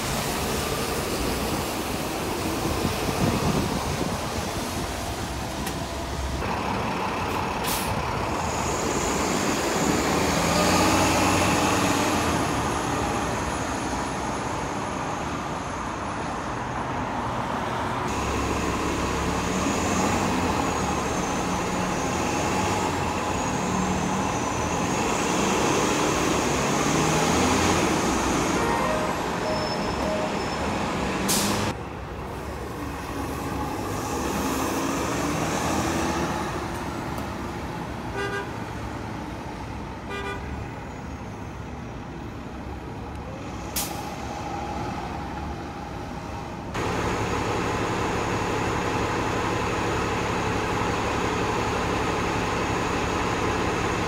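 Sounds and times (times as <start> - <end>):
bus engines running: 0.0 - 54.0.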